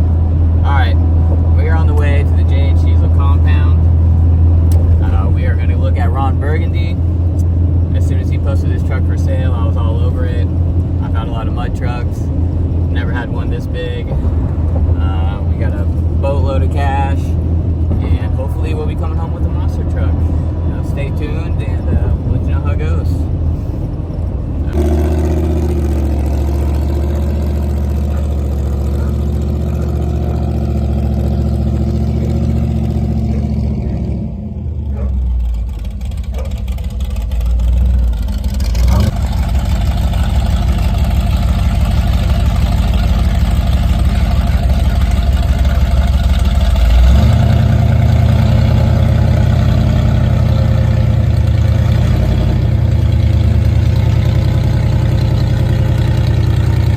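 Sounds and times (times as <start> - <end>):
vehicle engine droning: 0.0 - 56.9.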